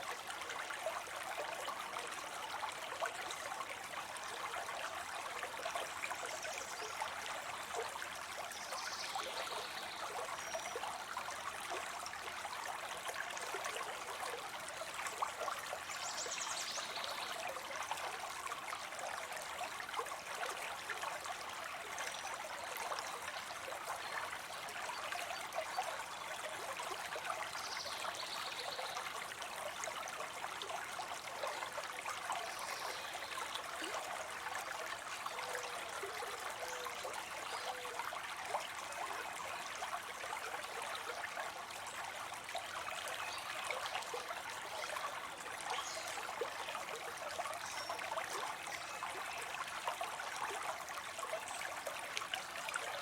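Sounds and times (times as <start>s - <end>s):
water trickling into a pond: 0.0s - 53.0s.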